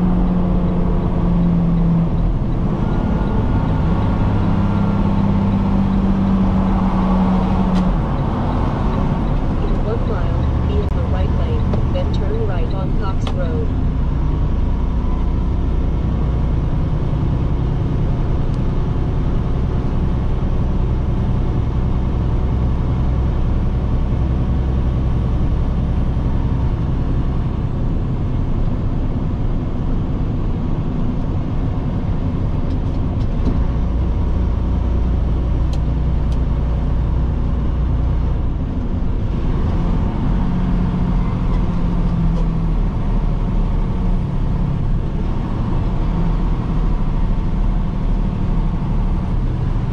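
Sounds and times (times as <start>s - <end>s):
road noise: 0.0s - 49.9s
truck diesel engine: 0.0s - 49.9s.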